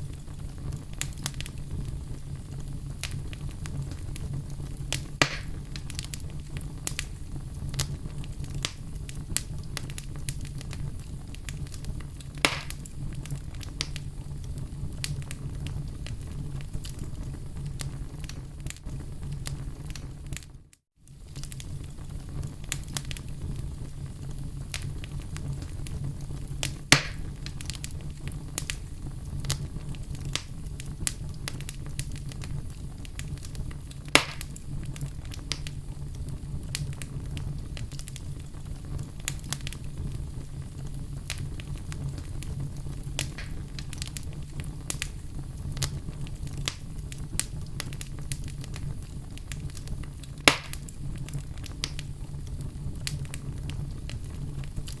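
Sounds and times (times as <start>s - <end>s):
fire crackling: 0.0s - 55.0s
fire popping: 0.0s - 55.0s
fire rumbling: 0.0s - 55.0s.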